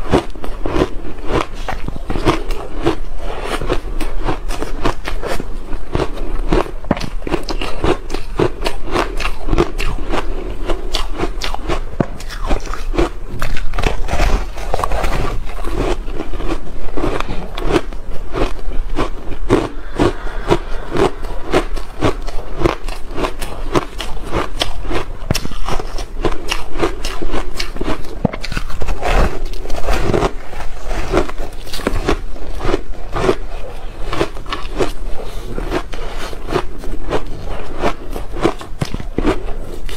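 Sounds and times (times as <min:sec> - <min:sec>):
ice being chewed crunching: 0:00.0 - 0:39.9
low steady hum: 0:00.0 - 0:39.9.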